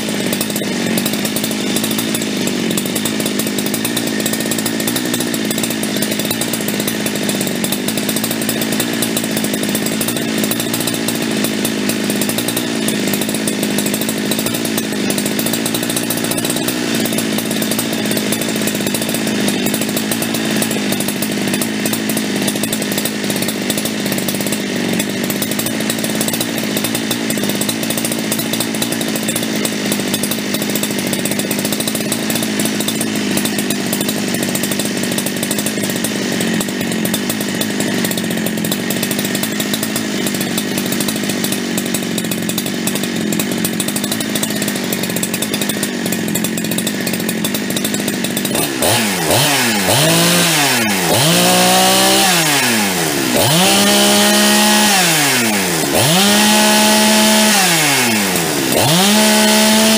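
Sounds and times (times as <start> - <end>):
chainsaw engine at full throttle: 0.0 - 59.9.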